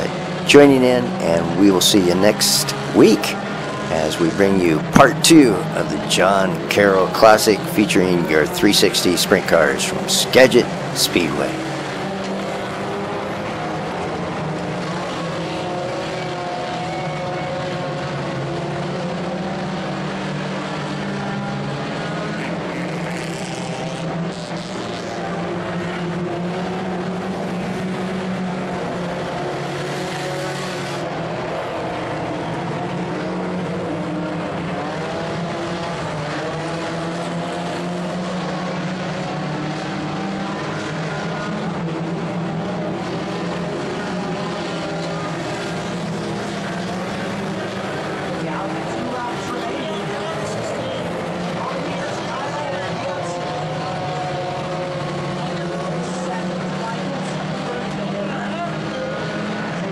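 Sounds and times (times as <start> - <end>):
race car engines at speed: 0.0 - 59.9.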